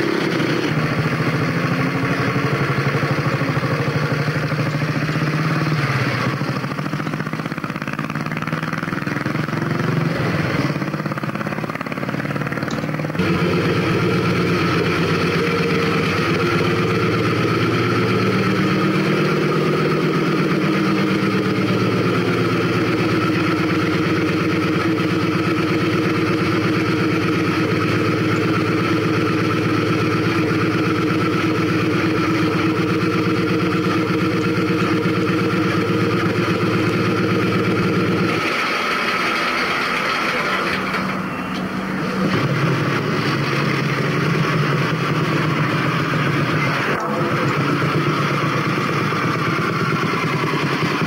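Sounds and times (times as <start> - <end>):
motorcycle engine idling: 0.0 - 51.0
motorcycle pulling off: 0.0 - 51.0.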